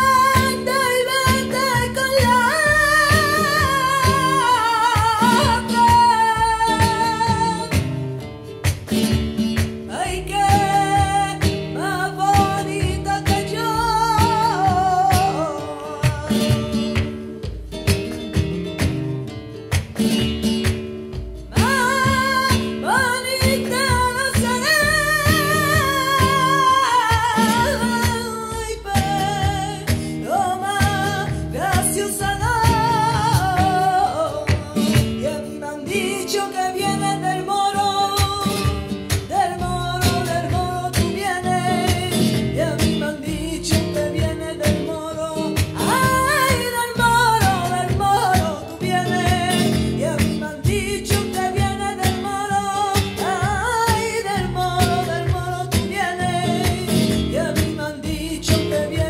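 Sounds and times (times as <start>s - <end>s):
plucked guitar: 0.0s - 59.0s.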